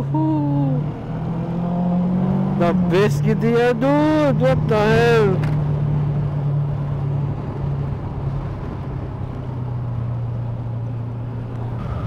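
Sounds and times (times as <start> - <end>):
motorcycle engine humming: 0.0 - 12.0
road noise: 0.0 - 12.0.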